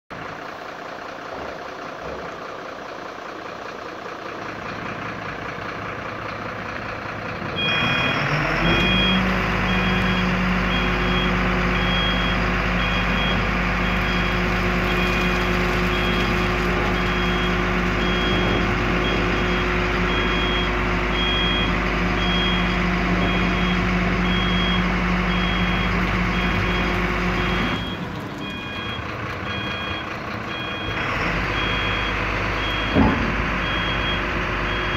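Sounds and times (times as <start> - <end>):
truck diesel engine: 0.1 - 34.9.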